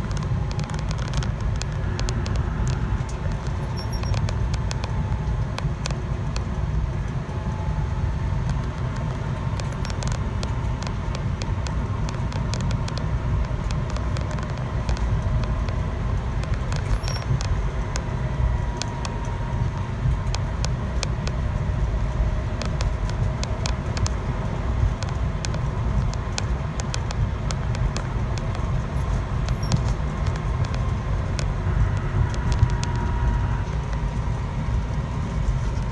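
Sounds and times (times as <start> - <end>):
vehicle low rumble: 0.0 - 35.9.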